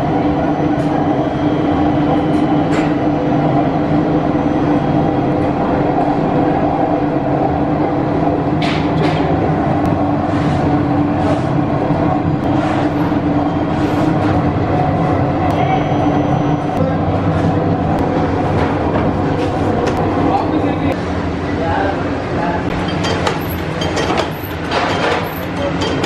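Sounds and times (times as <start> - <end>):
dough mixer humming: 0.0 - 20.9.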